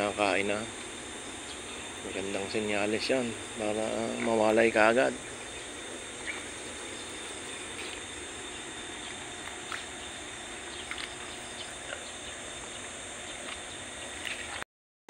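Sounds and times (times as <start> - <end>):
insect drone with high whine: 0.0 - 14.6
faint chirps: 0.1 - 14.6.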